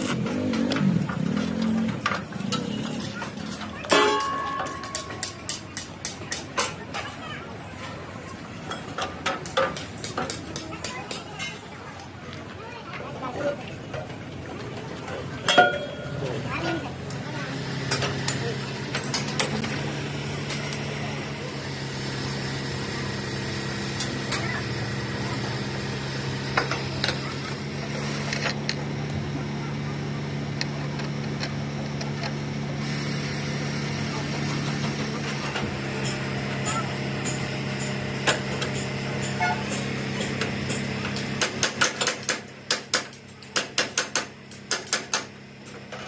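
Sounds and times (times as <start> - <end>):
steady engine hum: 0.0 - 46.0.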